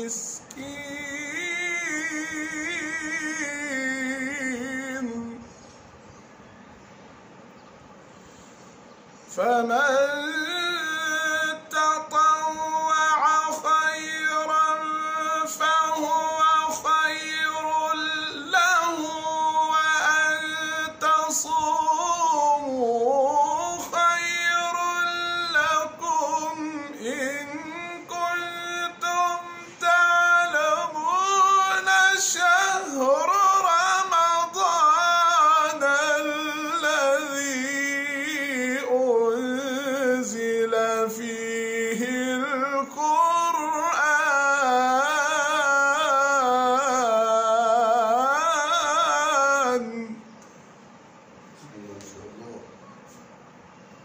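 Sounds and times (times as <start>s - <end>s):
man chanting melodically: 0.0s - 5.5s, 9.3s - 50.3s.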